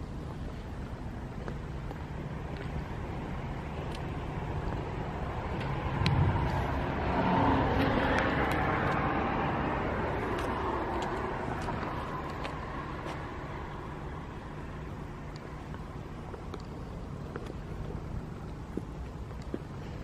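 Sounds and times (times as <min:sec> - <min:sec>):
vehicle engine running: 0:00.0 - 0:20.0
vehicle noise: 0:00.0 - 0:20.0.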